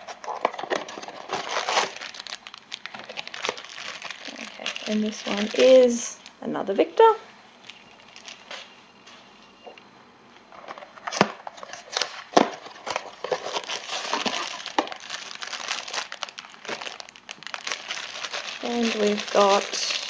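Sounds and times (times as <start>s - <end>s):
packaging crackles: 0.0s - 6.4s, 7.6s - 8.7s, 10.6s - 20.0s
foil packaging crinkling: 0.0s - 6.5s, 7.6s - 8.8s, 10.5s - 20.0s.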